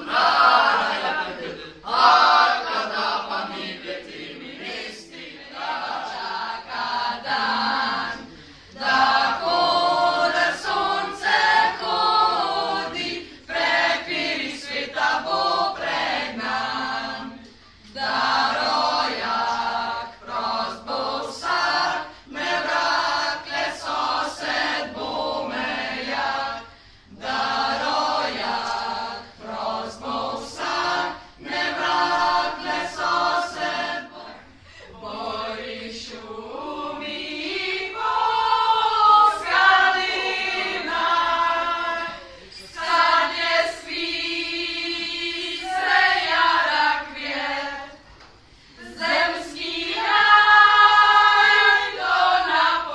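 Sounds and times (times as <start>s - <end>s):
group singing unaccompanied: 0.0s - 52.9s.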